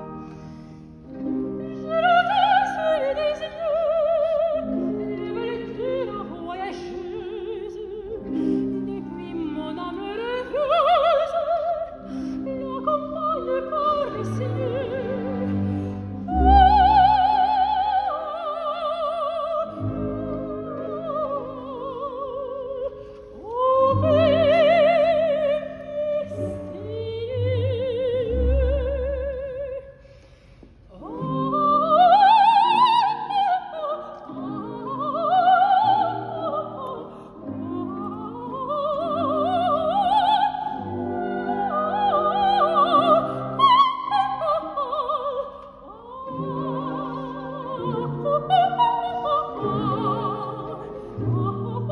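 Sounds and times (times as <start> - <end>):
symphony orchestra playing: 0.0 - 29.8, 31.0 - 45.3, 46.1 - 51.9
operatic soprano singing: 1.2 - 30.0, 30.9 - 51.9.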